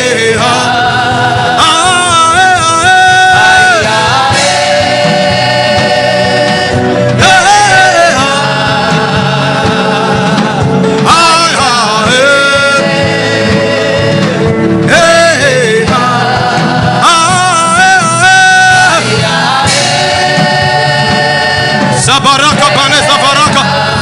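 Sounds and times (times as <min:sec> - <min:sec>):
voices singing held notes: 0:00.0 - 0:24.0.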